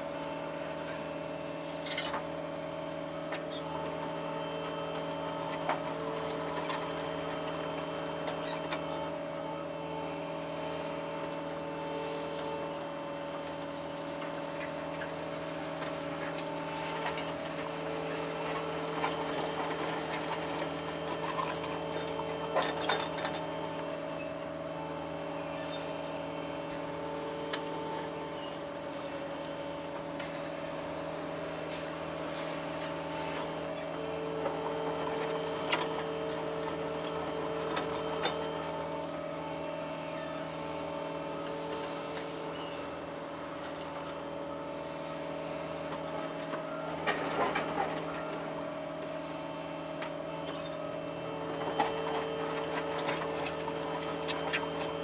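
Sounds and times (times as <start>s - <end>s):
excavator engine humming: 0.0s - 55.0s
hydraulic whine: 0.0s - 55.0s.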